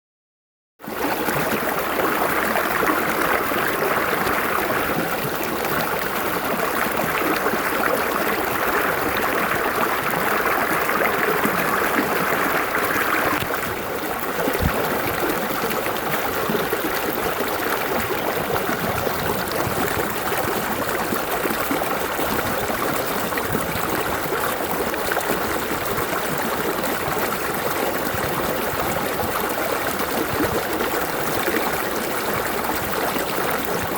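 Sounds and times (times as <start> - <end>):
stream of water flowing: 0.9 - 33.9.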